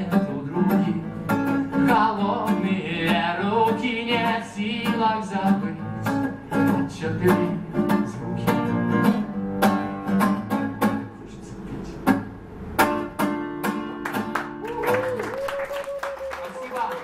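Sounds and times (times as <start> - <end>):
classical guitar strumming chords: 0.0 - 14.6.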